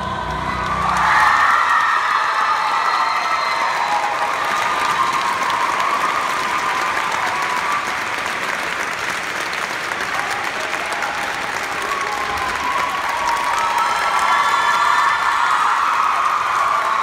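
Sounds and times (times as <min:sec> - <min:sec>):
audience applauding: 0:00.0 - 0:17.0
voices cheering: 0:00.0 - 0:17.0.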